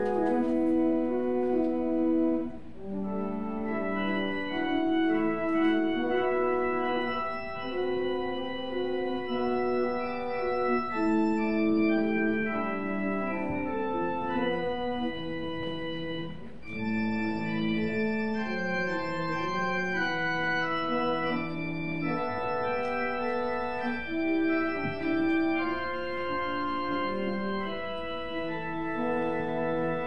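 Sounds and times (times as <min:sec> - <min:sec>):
organ playing held chords: 0:00.0 - 0:30.0.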